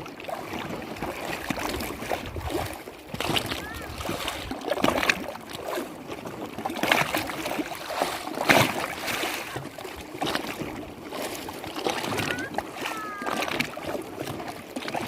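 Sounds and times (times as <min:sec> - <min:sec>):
lake water lapping and splashing: 0:00.0 - 0:15.0.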